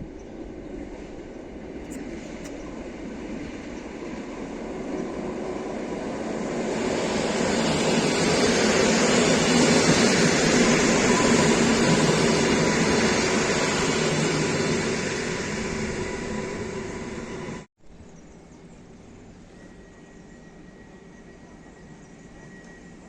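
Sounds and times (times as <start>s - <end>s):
train passing: 0.0s - 17.7s, 18.3s - 23.0s.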